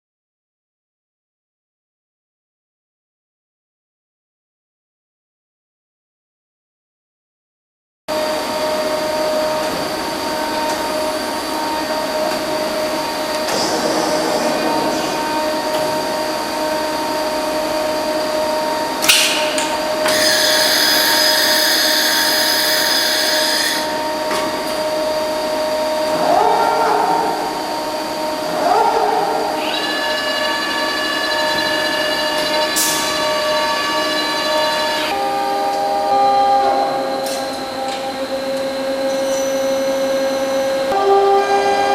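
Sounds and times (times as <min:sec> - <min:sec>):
machine whine: 0:08.1 - 0:41.9.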